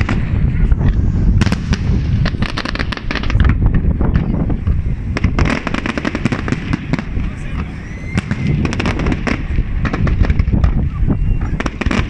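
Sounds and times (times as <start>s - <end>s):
constant low rumble: 0.0s - 12.0s
firework shell bursts and crackling: 0.0s - 12.0s.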